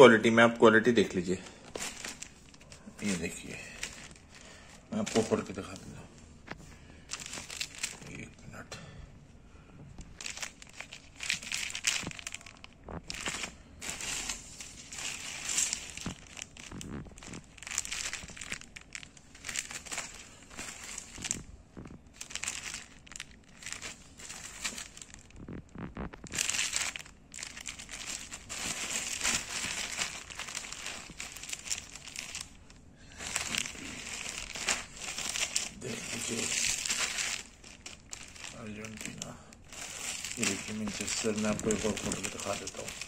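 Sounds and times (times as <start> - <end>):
plastic packets crinkling: 0.0 - 8.6, 9.8 - 43.0.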